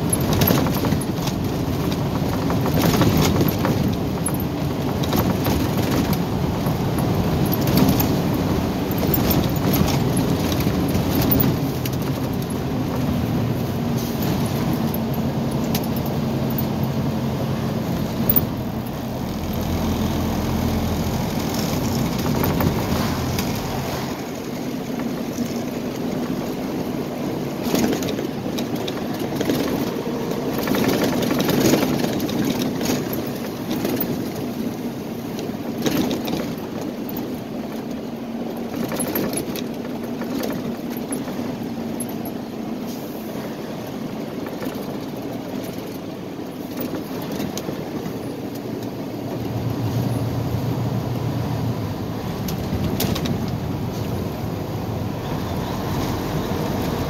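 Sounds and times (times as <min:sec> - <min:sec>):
cab rattles and knocks: 0:00.0 - 0:42.8, 0:43.8 - 0:50.6, 0:51.6 - 0:57.0
truck engine and road hum: 0:00.0 - 0:57.0.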